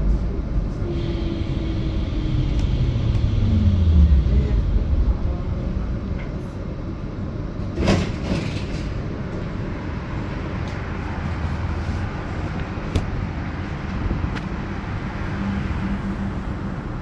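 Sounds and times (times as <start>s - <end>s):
tram clatter: 0.0s - 17.0s
tram wheels rumbling on rails: 0.0s - 17.0s.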